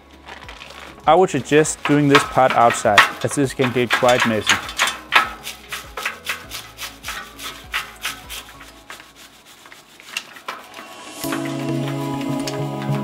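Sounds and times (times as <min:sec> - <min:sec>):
brush scrubbing bicycle sprockets: 0:00.2 - 0:13.0.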